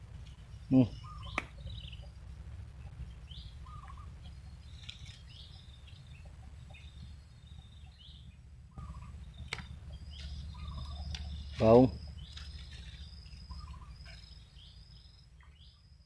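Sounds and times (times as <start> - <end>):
steady low rumble: 0.0 - 16.0
bird chirps: 0.3 - 16.0.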